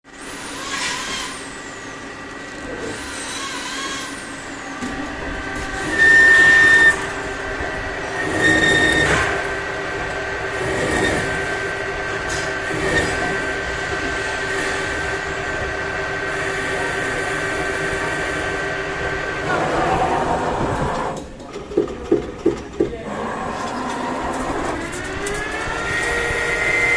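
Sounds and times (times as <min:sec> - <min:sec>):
lathe whining: 0:00.2 - 0:21.2, 0:23.0 - 0:26.9
metal cutting noise: 0:02.7 - 0:21.2, 0:23.1 - 0:26.9.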